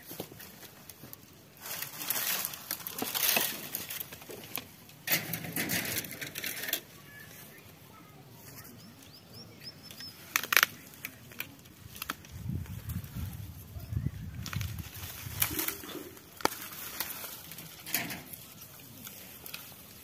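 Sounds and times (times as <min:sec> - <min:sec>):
dry vines rustling: 0:00.0 - 0:09.2, 0:09.8 - 0:20.0.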